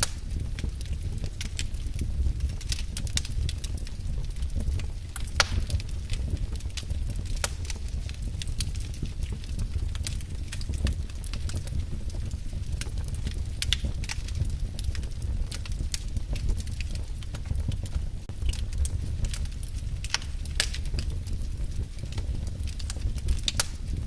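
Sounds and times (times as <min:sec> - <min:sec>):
fire popping and snapping: 0:00.0 - 0:24.0
low rumble of flames: 0:00.0 - 0:24.0.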